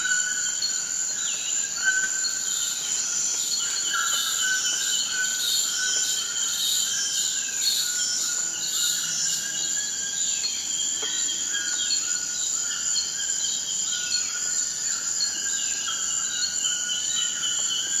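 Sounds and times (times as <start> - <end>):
pulsing insect calls: 0.0 - 18.0.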